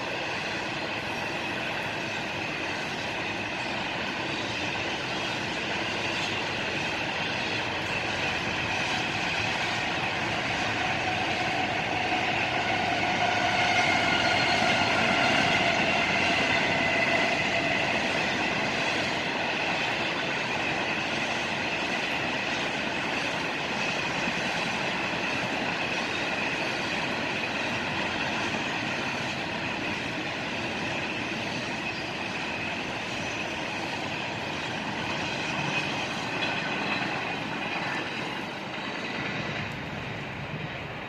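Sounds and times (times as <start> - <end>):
high wheel squeal: 0.0 - 39.8
freight train cars rumbling past: 0.0 - 41.0.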